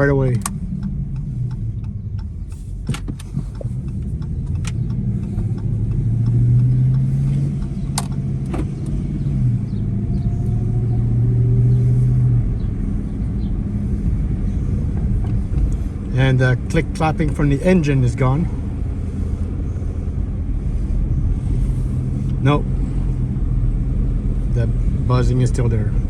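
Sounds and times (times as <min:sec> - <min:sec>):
car engine running while driving: 0:00.0 - 0:26.0
low road rumble: 0:00.0 - 0:26.0.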